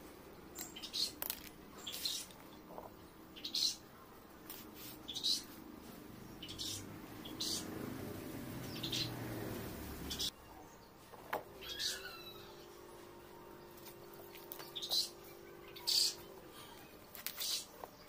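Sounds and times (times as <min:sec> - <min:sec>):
faint low hum: 0:00.0 - 0:18.0
small birds chirping: 0:00.0 - 0:18.0.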